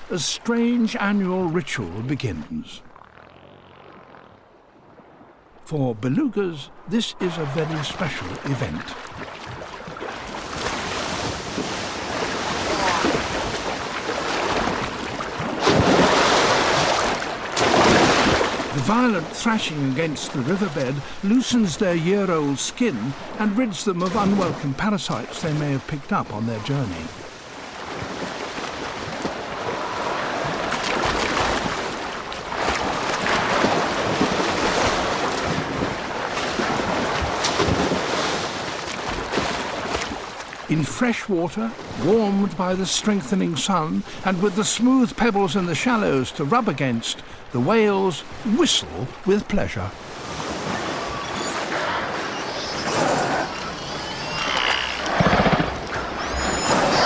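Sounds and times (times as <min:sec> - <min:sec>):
water splashing and churning: 0:00.0 - 0:57.0.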